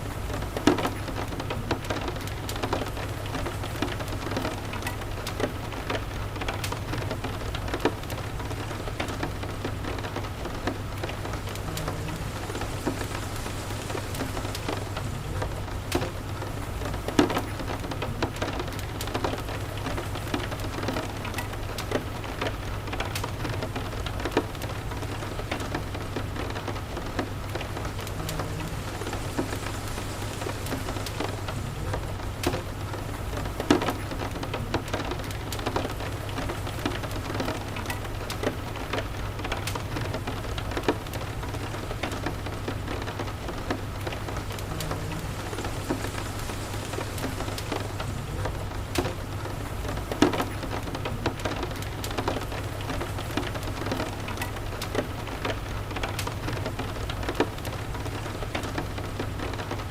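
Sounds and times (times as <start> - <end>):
crackling wood fire: 0.0 - 59.9
steady rain falling: 0.0 - 59.9.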